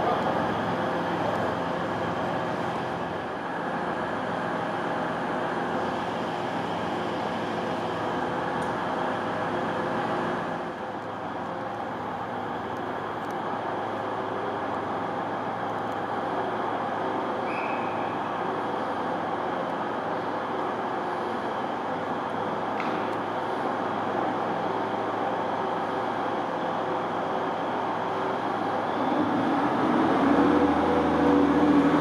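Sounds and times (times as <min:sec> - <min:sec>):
train engines idling: 0:00.0 - 0:32.0.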